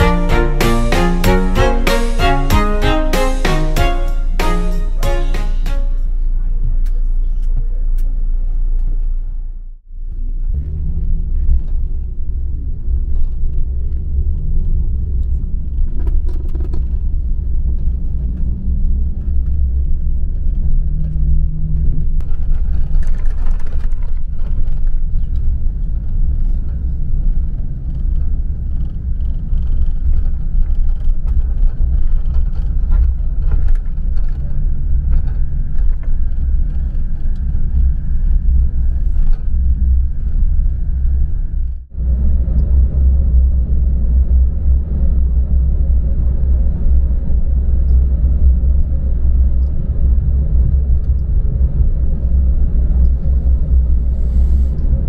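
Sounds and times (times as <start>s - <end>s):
coach engine rumble and road noise: 0.0s - 55.0s.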